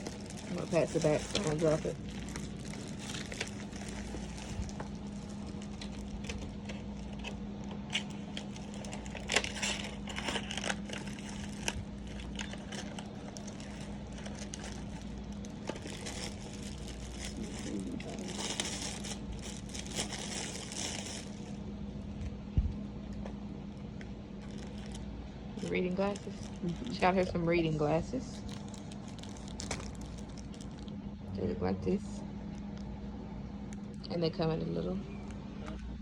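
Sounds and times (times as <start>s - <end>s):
plastic packaging crinkling: 0.0s - 22.3s, 23.9s - 31.1s
low hum: 0.0s - 36.0s.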